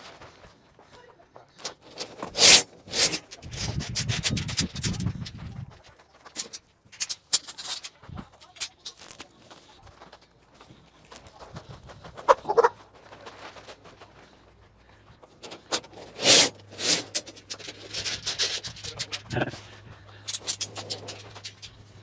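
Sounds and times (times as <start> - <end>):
scraping and rustling: 1.6 - 22.0.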